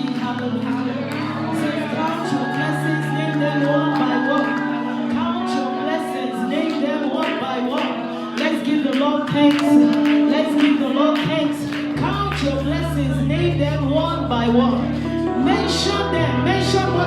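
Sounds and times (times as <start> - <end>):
voices singing: 0.0 - 13.6, 14.6 - 17.0
sustained keyboard chords: 0.0 - 17.0.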